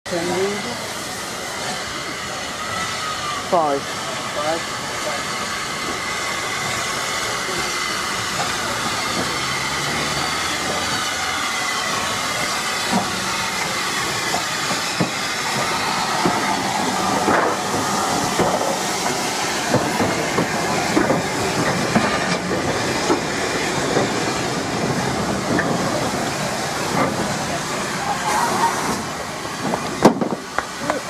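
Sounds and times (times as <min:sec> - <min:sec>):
hiss of leaking steam: 0:00.1 - 0:31.0
steam locomotive passing: 0:00.1 - 0:31.0
wheels clanking on rails: 0:03.9 - 0:31.0.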